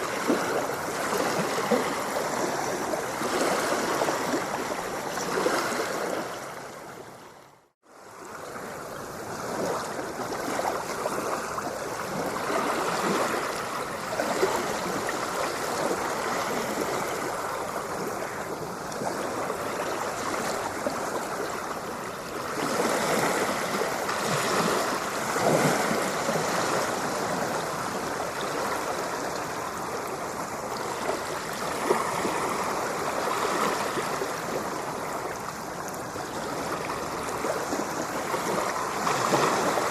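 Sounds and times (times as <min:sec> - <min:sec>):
ocean surf washing: 0:00.0 - 0:39.9.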